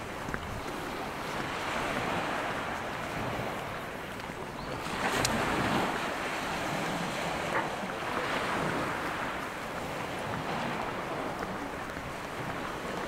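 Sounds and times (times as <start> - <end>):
small waves washing over shingle: 0.0 - 13.0
wind on the microphone: 0.0 - 13.0.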